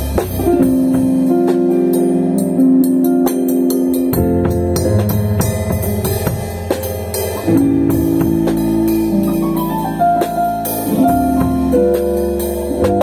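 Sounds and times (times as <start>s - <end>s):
drum kit with cymbals: 0.0s - 13.0s
electric bass line: 0.0s - 13.0s
electronic keyboard chords: 0.0s - 13.0s.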